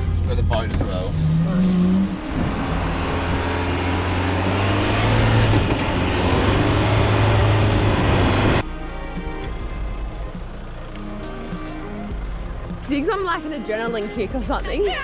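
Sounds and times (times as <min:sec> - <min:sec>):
vehicle engine under load: 0:00.0 - 0:08.6, 0:09.9 - 0:13.4.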